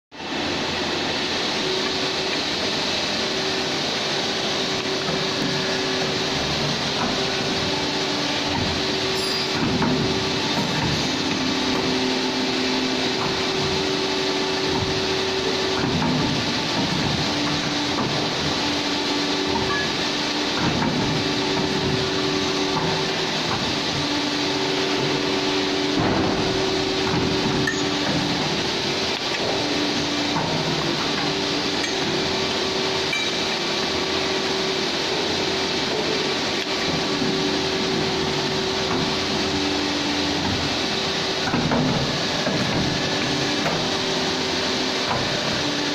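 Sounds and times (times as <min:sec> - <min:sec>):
hydraulic power unit humming: 0:00.1 - 0:45.9.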